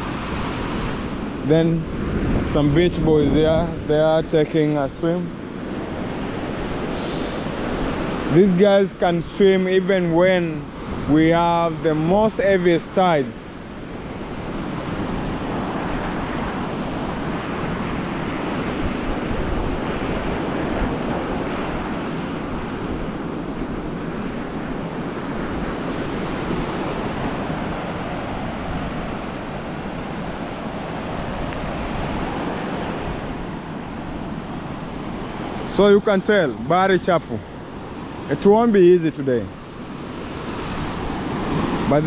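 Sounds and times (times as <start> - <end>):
wind buffeting the microphone: 0.0 - 36.7, 39.3 - 42.0
ocean surf breaking on a beach: 0.0 - 42.0.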